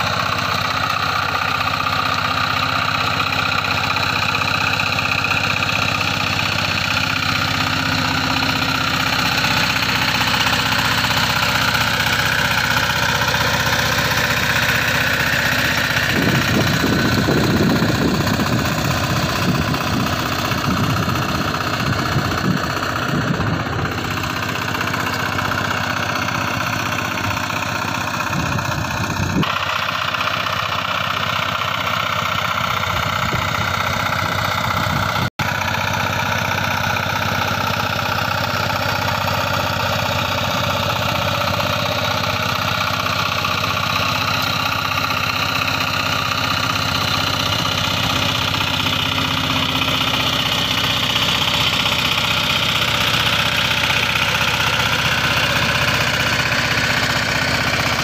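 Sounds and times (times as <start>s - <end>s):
diesel tiller engine running: 0.0s - 58.0s.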